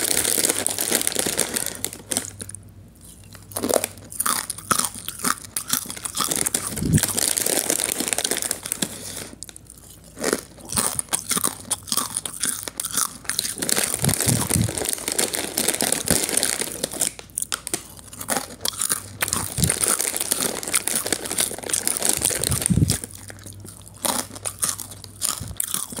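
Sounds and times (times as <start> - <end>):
person crunching chips: 0.0 - 26.0.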